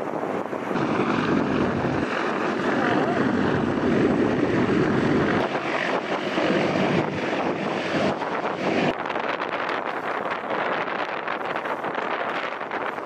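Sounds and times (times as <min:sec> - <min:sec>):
helicopter flying past: 0:00.1 - 0:13.0.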